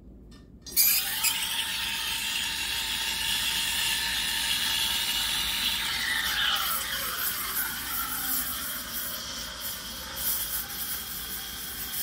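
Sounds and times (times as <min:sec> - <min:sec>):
steam wand hissing into milk: 0:00.8 - 0:12.0.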